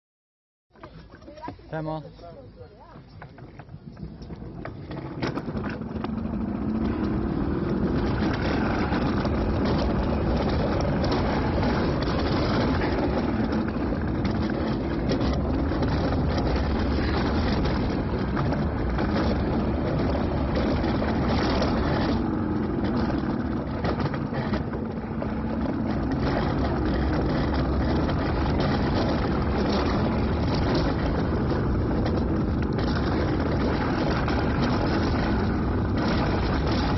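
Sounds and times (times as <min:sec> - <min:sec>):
sled wheels rolling on rail: 0:00.7 - 0:36.9.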